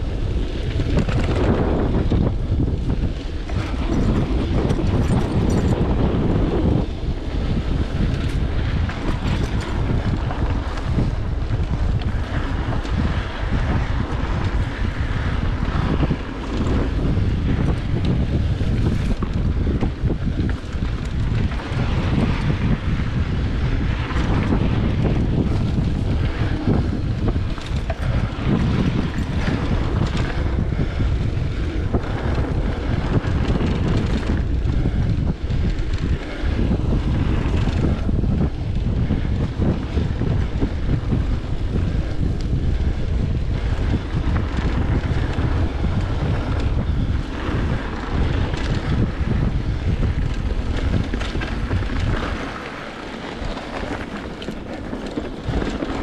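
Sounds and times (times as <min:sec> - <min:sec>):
bike rattling over bumps: 0:00.0 - 0:56.0
bike tyre noise on dirt: 0:00.0 - 0:56.0
wind buffeting microphone: 0:00.0 - 0:56.0.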